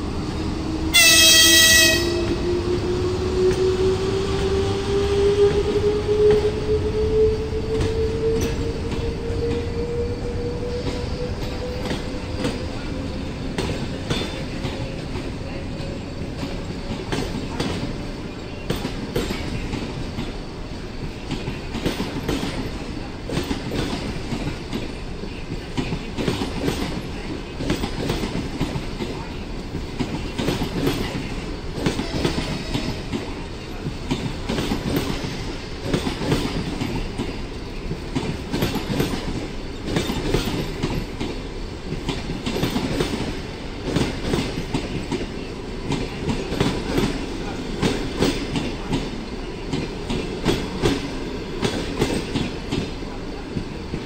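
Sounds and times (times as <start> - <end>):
train wheels clicking over rail joints: 7.6 - 54.0.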